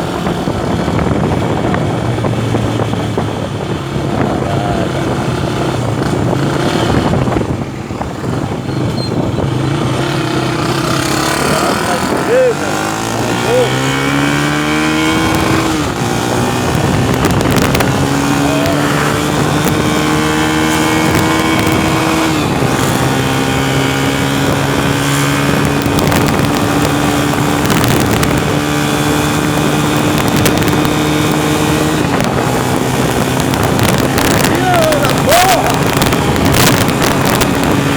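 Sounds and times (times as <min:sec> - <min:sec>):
vehicle engine shifting gears: 0:00.0 - 0:37.9
wind and road noise: 0:00.0 - 0:37.9.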